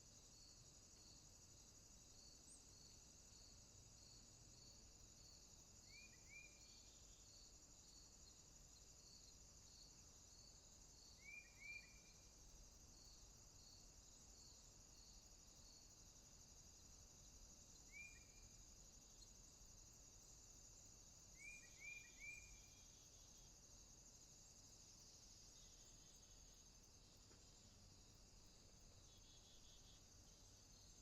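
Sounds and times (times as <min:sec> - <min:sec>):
insect buzzing drone: 0:00.0 - 0:31.0
repeating insect chirp: 0:00.0 - 0:31.0.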